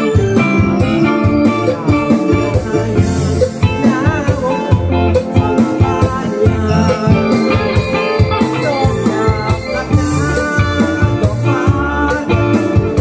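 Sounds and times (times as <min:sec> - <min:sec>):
electric guitar: 0:00.0 - 0:13.0
electronic keyboard: 0:00.0 - 0:13.0
steady drum beat: 0:00.8 - 0:13.0
man singing into microphone: 0:01.0 - 0:13.0.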